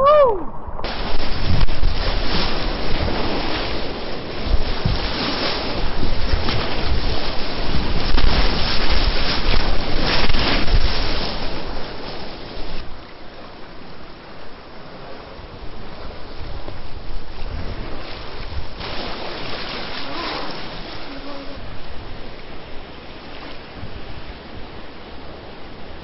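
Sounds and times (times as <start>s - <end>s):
whitewater rapids rushing: 0.0s - 26.0s
waves breaking over kayak: 0.4s - 26.0s.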